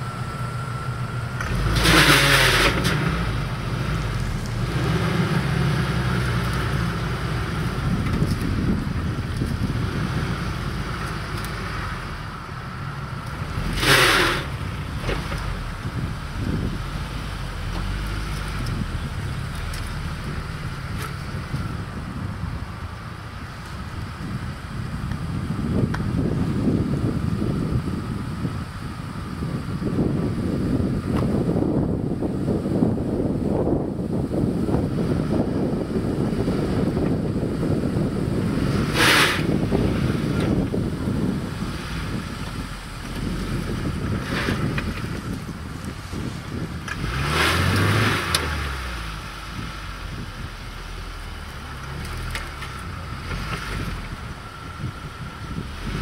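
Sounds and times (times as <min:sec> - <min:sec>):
suv engine running at low revs: 0:00.0 - 0:56.0
wind on microphone: 0:01.1 - 0:56.0.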